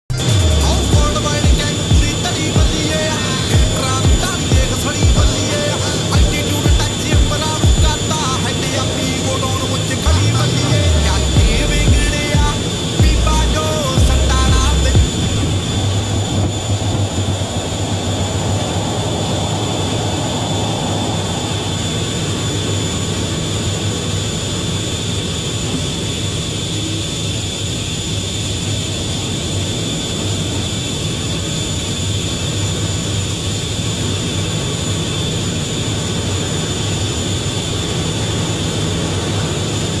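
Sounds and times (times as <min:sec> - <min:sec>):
jet engine whine and drone: 0:00.1 - 0:40.0.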